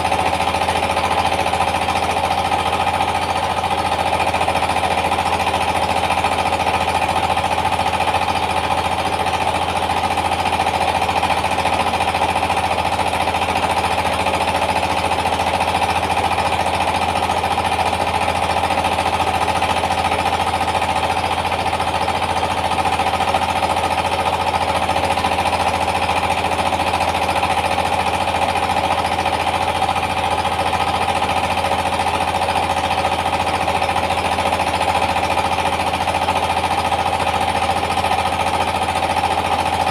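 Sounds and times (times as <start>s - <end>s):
diesel engine pounding: 0.0s - 39.9s.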